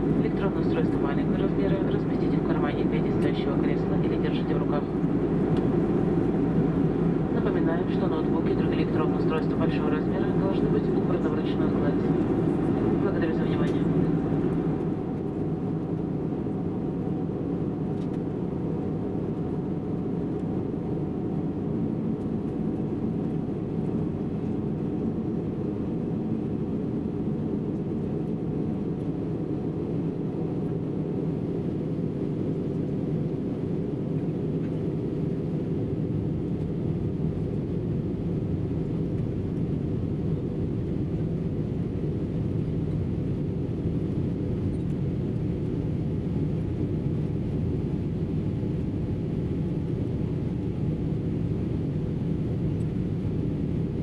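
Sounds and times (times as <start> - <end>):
aircraft cabin engine drone: 0.0 - 54.0.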